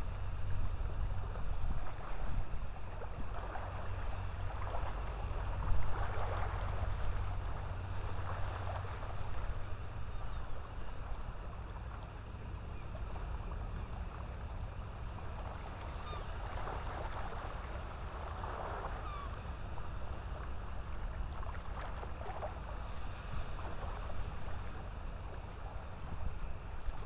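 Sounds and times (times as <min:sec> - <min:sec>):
wind and surf rumble: 0:00.0 - 0:27.0.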